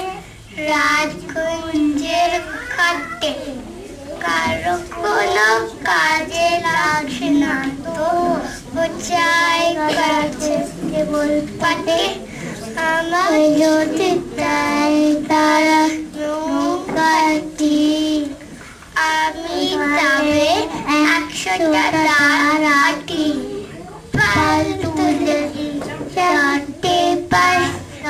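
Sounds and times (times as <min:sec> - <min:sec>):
child singing: 0:00.0 - 0:28.0.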